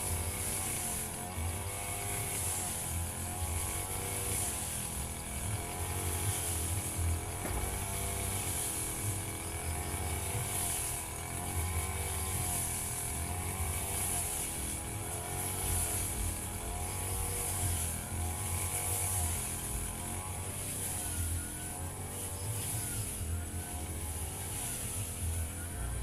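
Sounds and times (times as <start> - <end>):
brush cutter engine under load: 0.0 - 26.0.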